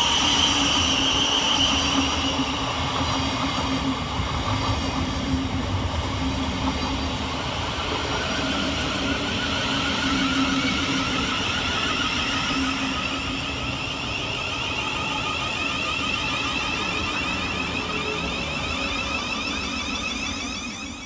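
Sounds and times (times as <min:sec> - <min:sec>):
electric train motor whine: 0:00.0 - 0:21.0
train rumble: 0:00.0 - 0:21.0.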